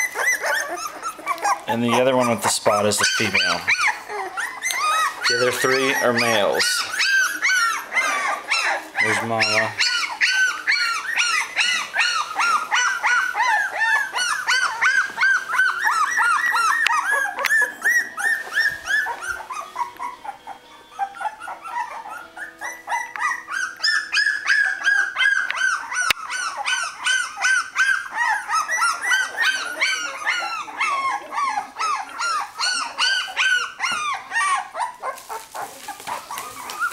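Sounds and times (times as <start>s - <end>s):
puppies squealing and whimpering: 0.0s - 36.9s.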